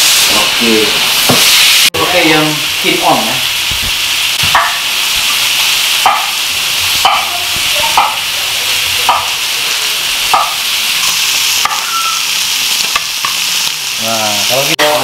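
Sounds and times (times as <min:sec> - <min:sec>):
food frying in oil: 0:00.0 - 0:15.0.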